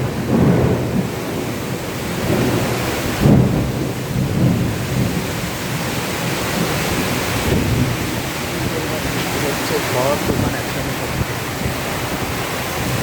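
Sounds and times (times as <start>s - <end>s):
heavy rain pouring: 0.0s - 13.0s
low thunder rumbles: 0.0s - 13.0s.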